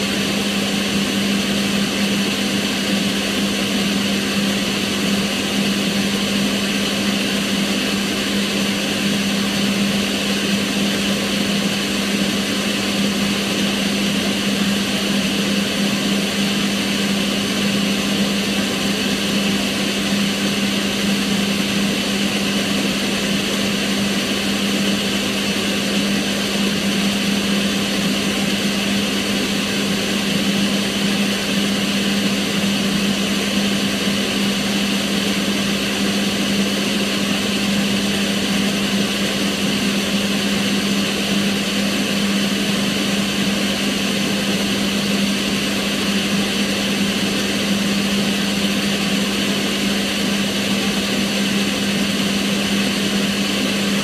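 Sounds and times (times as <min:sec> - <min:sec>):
extractor fan humming: 0:00.0 - 0:54.0.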